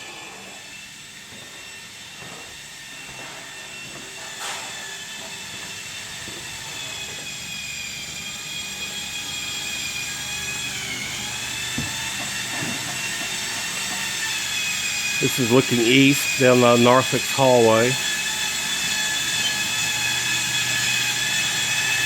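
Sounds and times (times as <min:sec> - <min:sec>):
power tool whining: 0:00.0 - 0:22.0.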